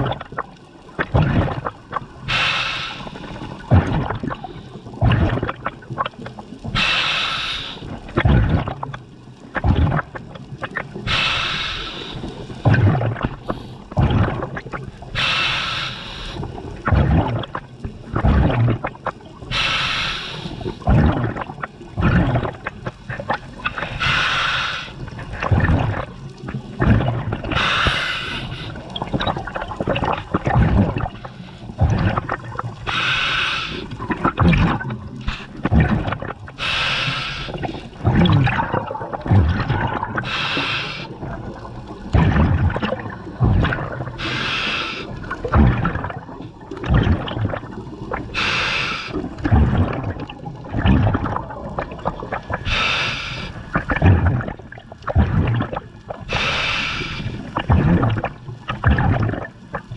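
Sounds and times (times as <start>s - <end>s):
bubbling and gurgling: 0.0s - 59.9s.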